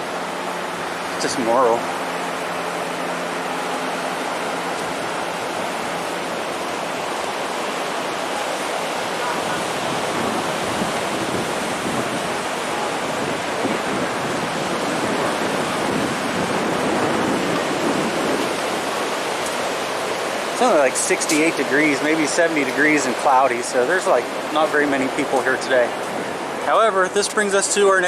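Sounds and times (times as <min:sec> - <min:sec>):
ocean surf washing onto beach: 0:00.0 - 0:28.0.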